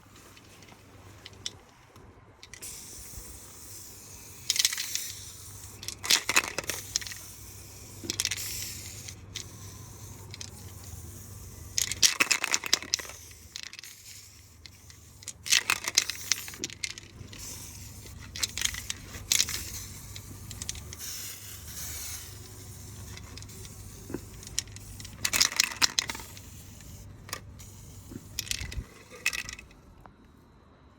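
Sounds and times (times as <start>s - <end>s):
steady low hum: 0.0s - 30.9s
paint spraying hiss: 2.5s - 29.3s.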